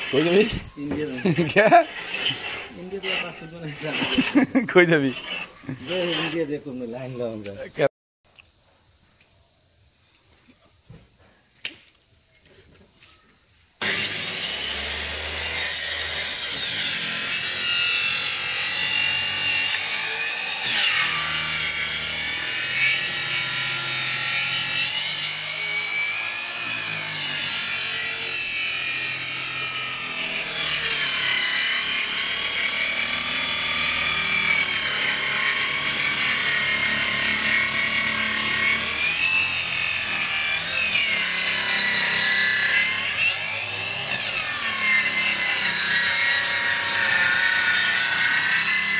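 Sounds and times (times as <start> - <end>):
power tool cutting wood: 0.0 - 7.9, 13.8 - 48.9.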